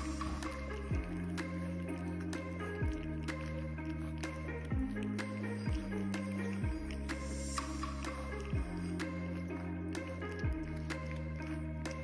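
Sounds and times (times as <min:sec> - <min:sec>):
low bass notes: 0:00.0 - 0:12.0.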